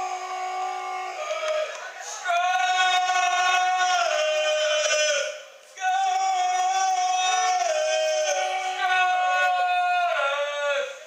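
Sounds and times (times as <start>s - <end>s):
person chanting loudly: 0.0s - 11.0s.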